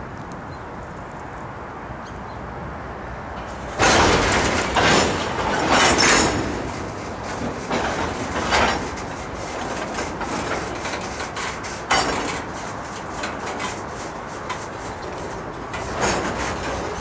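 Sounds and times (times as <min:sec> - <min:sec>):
train wheels rumbling on rail: 0:02.6 - 0:17.0
train clanks: 0:03.2 - 0:17.0.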